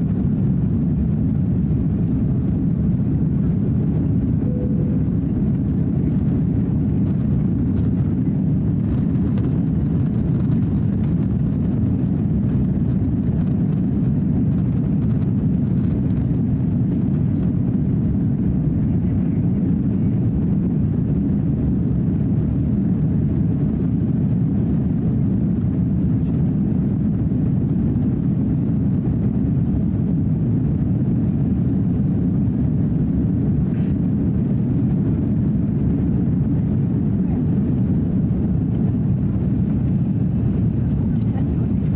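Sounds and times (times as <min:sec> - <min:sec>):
airflow over fuselage: 0:00.0 - 0:41.9
jet engines at climb power: 0:00.0 - 0:41.9.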